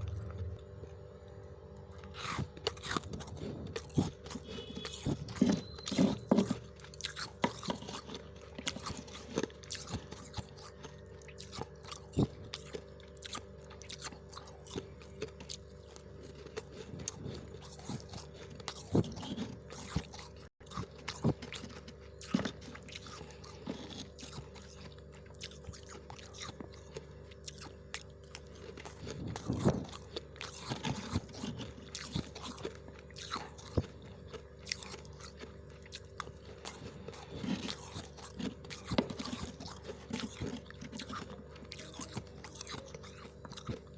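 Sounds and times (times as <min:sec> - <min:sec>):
frost being chewed: 0:00.0 - 0:43.9
steady low hum: 0:00.0 - 0:43.9.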